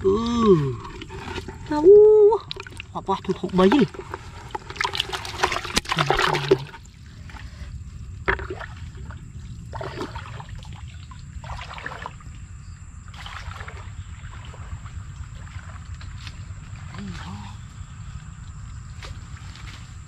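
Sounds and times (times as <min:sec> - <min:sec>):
steady low rumble: 0:00.0 - 0:20.0
water splashing and sloshing: 0:00.0 - 0:20.0.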